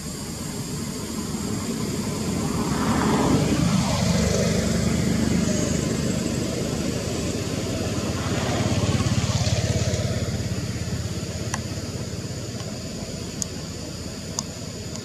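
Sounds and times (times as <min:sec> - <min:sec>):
vehicle engine running: 0:00.1 - 0:15.0.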